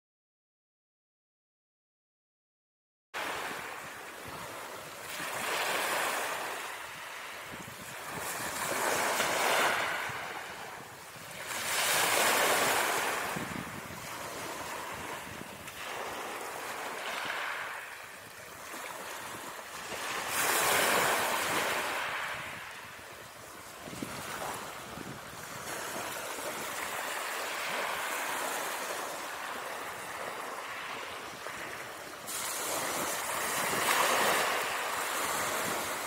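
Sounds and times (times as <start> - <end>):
small sea waves washing ashore: 3.2 - 36.0.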